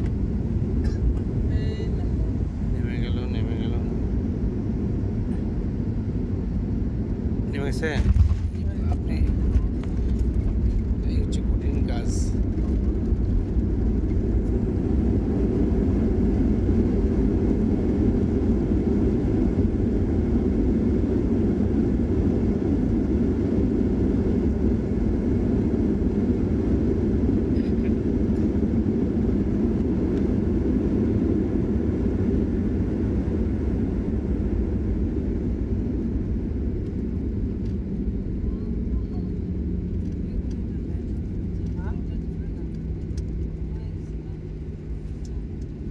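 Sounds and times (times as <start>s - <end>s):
airliner cabin engine and runway roar: 0.0s - 45.9s.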